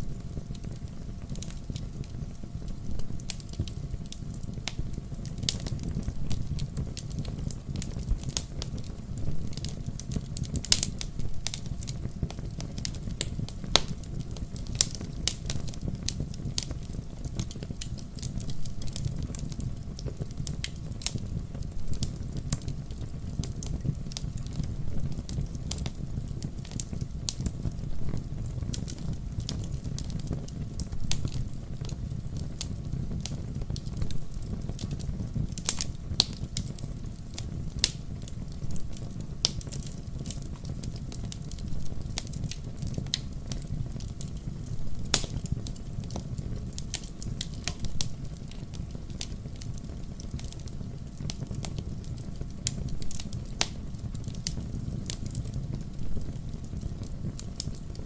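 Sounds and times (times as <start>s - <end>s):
burning wood crackling and popping: 0.0s - 58.0s
fire rumbling: 0.0s - 58.0s.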